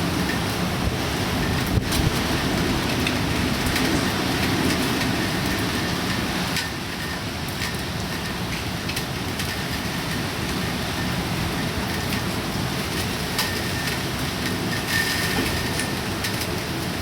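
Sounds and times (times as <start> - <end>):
heavy rain: 0.0 - 17.0
raindrops ticking on surfaces: 0.0 - 17.0.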